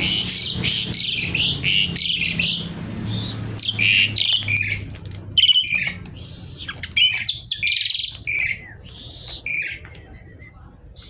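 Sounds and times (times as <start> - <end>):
starling chattering song: 0.0 - 11.0.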